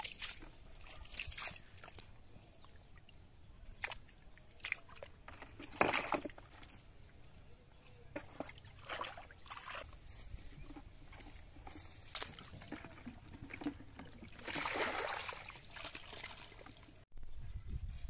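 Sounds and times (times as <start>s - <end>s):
water sloshing and splashing: 0.0s - 7.3s, 8.1s - 17.0s.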